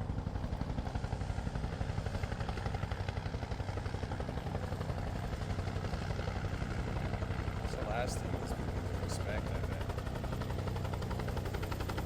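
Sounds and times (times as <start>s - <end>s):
helicopter engine noise: 0.0s - 12.0s
helicopter rotor chopping: 0.0s - 12.0s.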